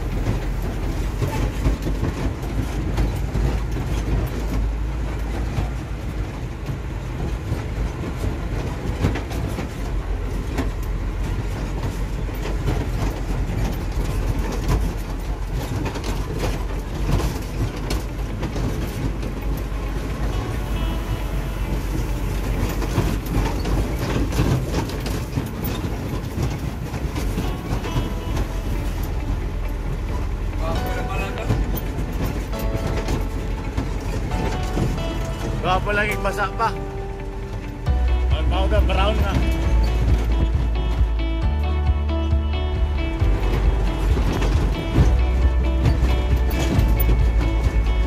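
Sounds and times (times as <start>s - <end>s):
cab rattles and knocks: 0.0s - 48.0s
diesel engine running: 0.0s - 48.0s.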